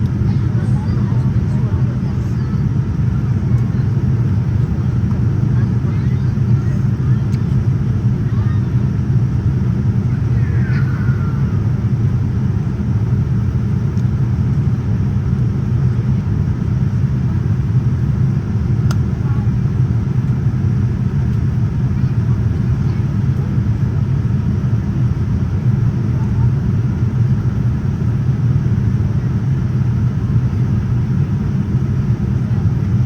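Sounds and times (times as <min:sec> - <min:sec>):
airliner cabin roar: 0:00.0 - 0:33.0.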